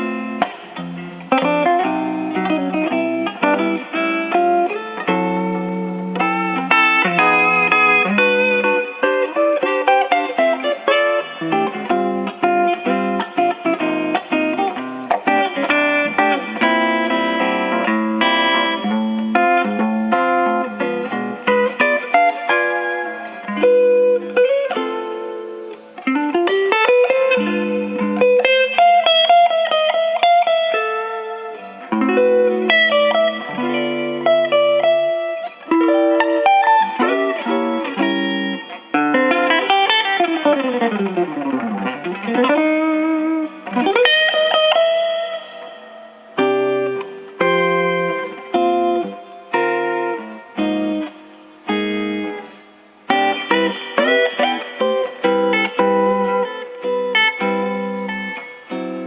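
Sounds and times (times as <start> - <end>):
guitar runs and chords: 0.0 - 59.0.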